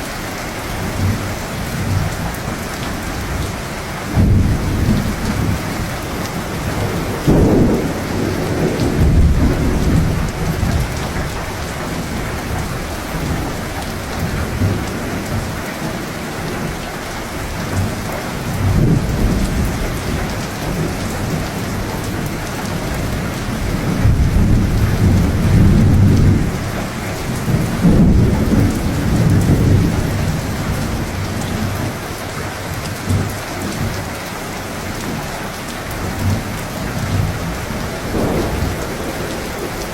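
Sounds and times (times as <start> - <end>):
heavy rain: 0.0 - 39.9
rolling thunder: 0.7 - 16.8, 17.4 - 32.0, 35.9 - 39.9.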